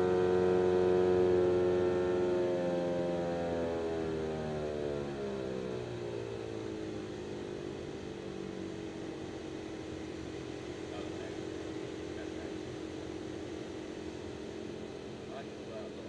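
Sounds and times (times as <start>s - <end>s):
airplane engine droning: 0.0s - 16.0s.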